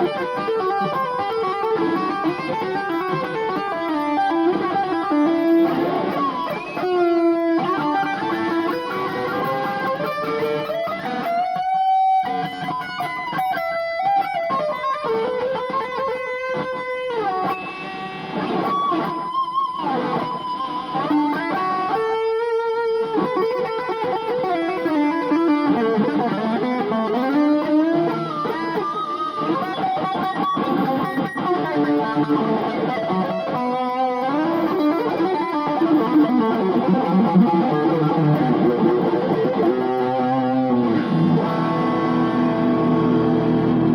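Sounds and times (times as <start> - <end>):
electric guitar rock solo: 0.0 - 43.9.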